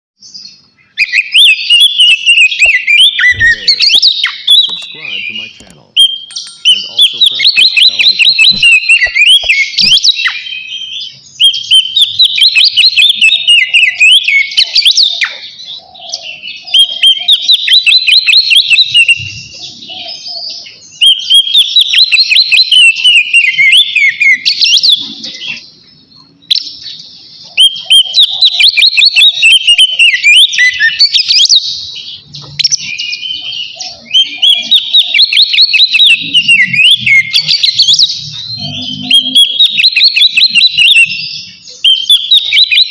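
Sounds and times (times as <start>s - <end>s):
songbird whistles and trills: 0.2s - 42.9s.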